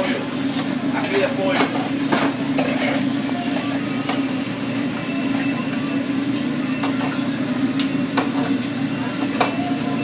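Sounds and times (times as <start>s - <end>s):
kitchen exhaust hood hum: 0.0s - 10.0s.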